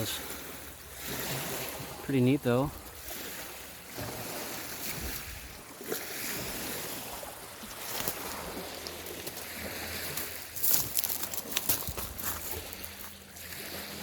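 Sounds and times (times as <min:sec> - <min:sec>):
waves washing on shore: 0:00.0 - 0:14.0.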